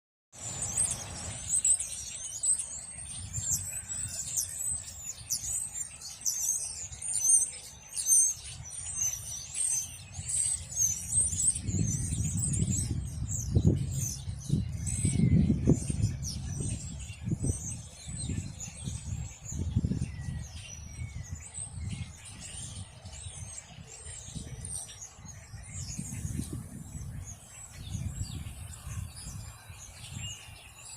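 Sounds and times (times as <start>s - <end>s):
small birds chirping: 0.4s - 30.9s.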